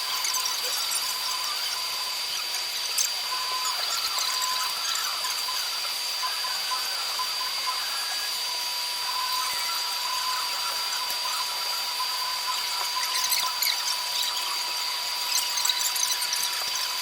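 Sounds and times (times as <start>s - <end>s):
laser crackling hiss: 0.0s - 17.0s
laser machine whine and hum: 0.0s - 17.0s.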